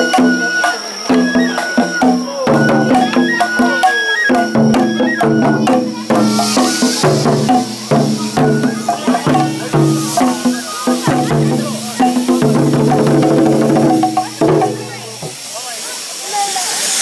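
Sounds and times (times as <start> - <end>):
flute melody: 0.0 - 15.0
rapid drum and percussion beats: 0.0 - 17.0.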